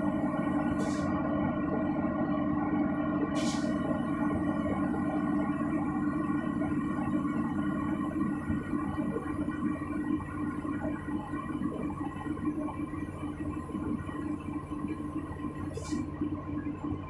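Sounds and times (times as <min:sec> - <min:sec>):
excavator diesel engine and hydraulics: 0:00.0 - 0:17.0.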